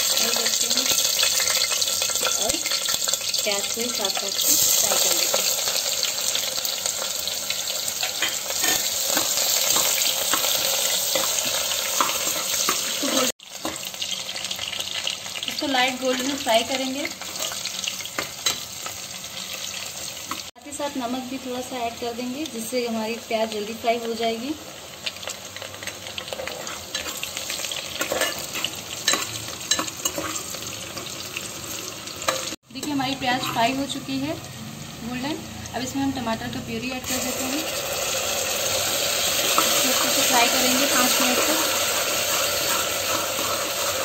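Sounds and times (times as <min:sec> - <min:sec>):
onions sizzling in oil: 0:00.0 - 0:44.0.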